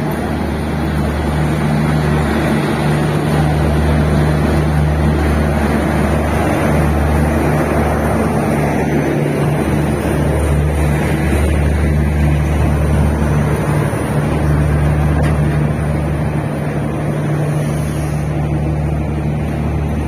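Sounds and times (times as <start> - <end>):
diesel generator drone: 0.0 - 20.0.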